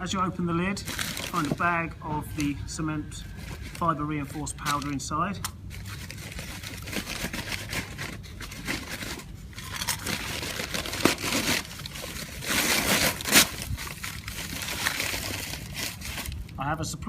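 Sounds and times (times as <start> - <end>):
bag crinkling and rustling: 0.6 - 5.0, 5.6 - 16.6.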